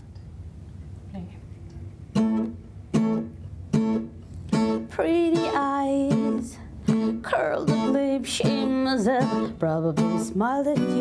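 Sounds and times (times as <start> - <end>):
acoustic guitar strummed: 2.1 - 11.0.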